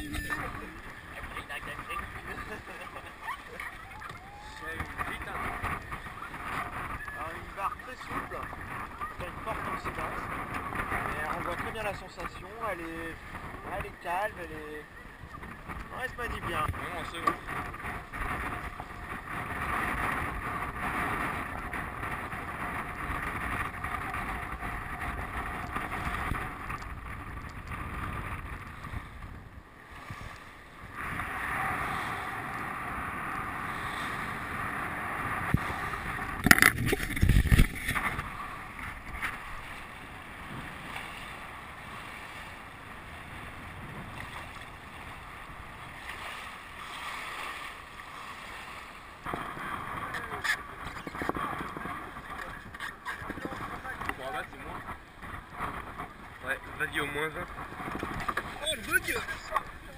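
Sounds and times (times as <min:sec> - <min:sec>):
water rushing past hull: 0:00.0 - 0:59.9
wind buffeting microphone: 0:00.0 - 0:59.9.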